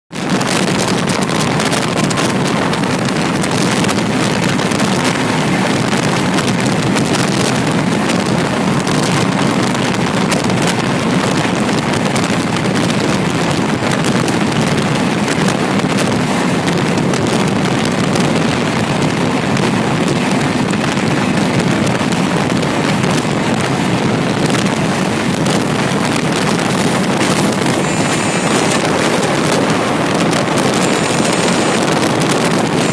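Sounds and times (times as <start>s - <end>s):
rush of wind: 0.1s - 32.9s
wheel-on-rail noise: 0.1s - 32.9s
wind buffeting microphone: 0.1s - 32.9s.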